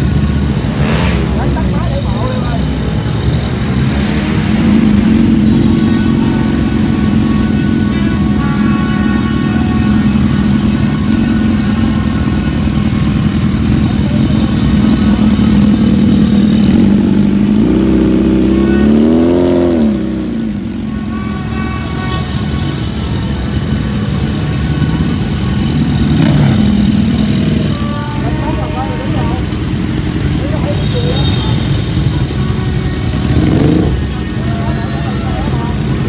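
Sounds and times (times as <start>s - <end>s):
motorcycle engines idling: 0.0s - 36.0s
motorcycle revving: 0.0s - 36.0s.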